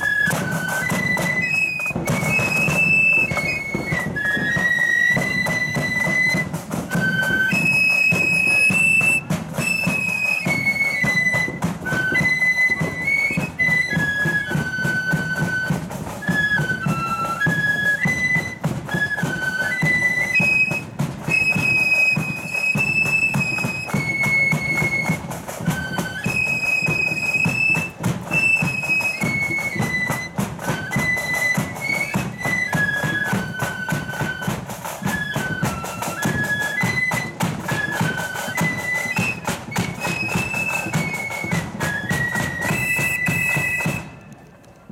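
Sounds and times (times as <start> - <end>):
drums beating: 0.0 - 44.4
flutes playing melody: 0.0 - 44.9.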